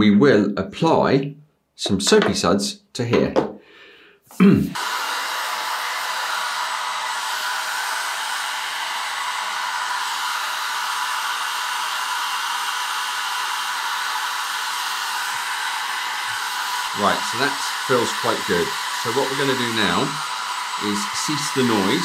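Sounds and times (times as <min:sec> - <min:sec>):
hot-air blower rushing hiss: 0:04.4 - 0:22.0.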